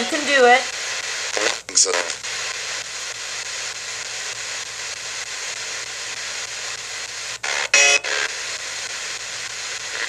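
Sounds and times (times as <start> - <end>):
radio static hiss: 0.0 - 10.0
radio station sound snatch: 0.1 - 10.0.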